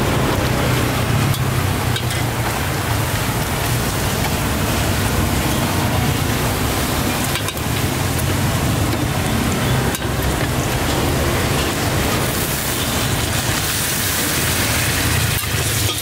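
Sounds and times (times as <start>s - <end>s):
eggs sizzling in hot oil: 0.0s - 16.0s.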